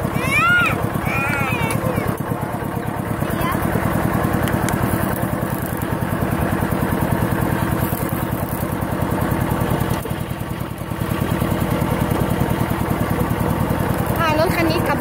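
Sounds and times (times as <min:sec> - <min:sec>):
diesel tractor engine chugging: 0:00.0 - 0:15.0.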